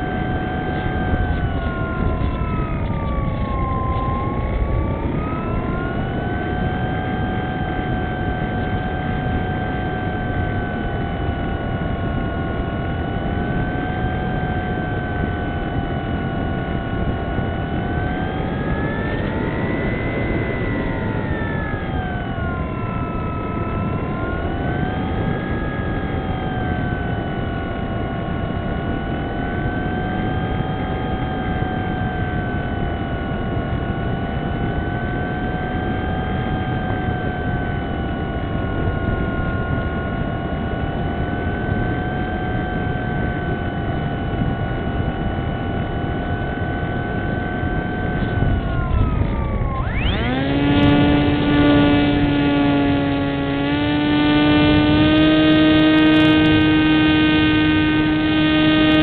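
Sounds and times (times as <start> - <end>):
model plane motor whine: 0.0 - 59.0.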